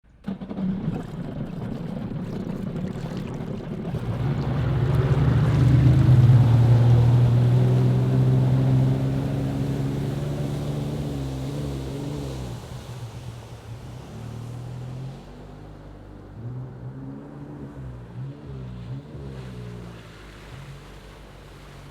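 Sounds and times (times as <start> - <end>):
jet ski engine over water: 0.1 - 21.9.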